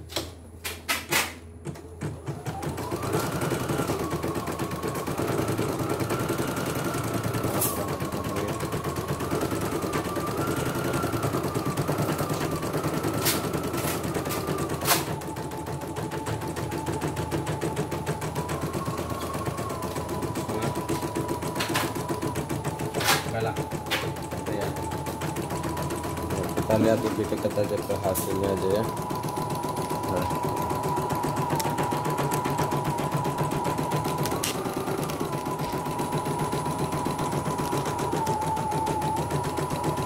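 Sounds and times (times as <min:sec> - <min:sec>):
motor whine: 0:01.7 - 0:40.0
embroidery machine needle rattle: 0:02.8 - 0:40.0.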